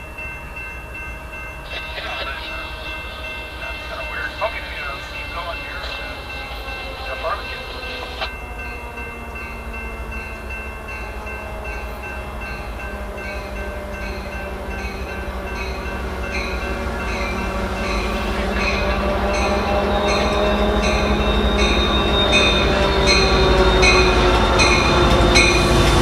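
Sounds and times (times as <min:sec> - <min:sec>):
diesel train locomotive running: 0:00.0 - 0:26.0
train bell ringing: 0:00.0 - 0:26.0.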